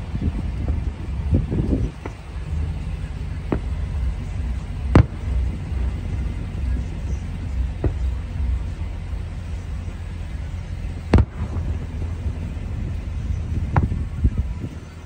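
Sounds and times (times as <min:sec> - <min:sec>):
distant fireworks bursting: 0:00.0 - 0:15.0
steady low rumble: 0:00.0 - 0:15.0.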